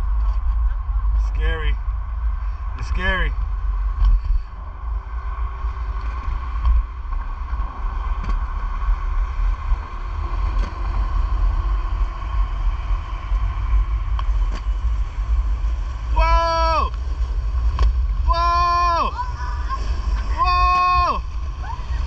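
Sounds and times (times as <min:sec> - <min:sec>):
skate wheels rumbling on concrete: 0:00.0 - 0:22.0
steady hum: 0:00.0 - 0:22.0
wind buffeting microphone: 0:03.4 - 0:22.0.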